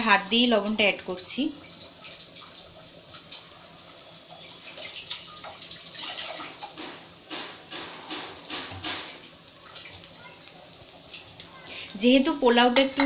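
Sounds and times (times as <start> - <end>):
rice sizzling in a pan: 0.0 - 13.0.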